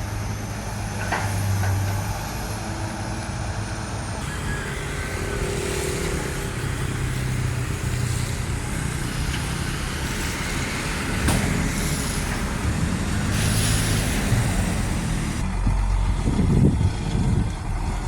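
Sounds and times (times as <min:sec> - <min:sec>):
heavy truck engine running: 0:00.0 - 0:18.0
road traffic noise: 0:00.0 - 0:18.0.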